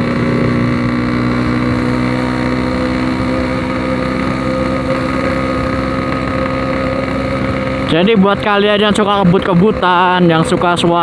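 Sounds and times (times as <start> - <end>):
two-stroke motorcycle engine running: 0.0 - 11.0.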